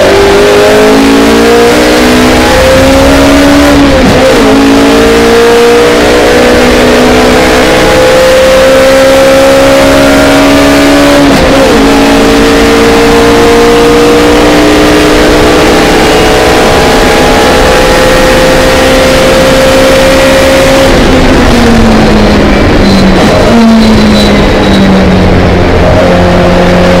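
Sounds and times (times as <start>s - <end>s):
race car engine at full throttle: 0.0s - 27.0s.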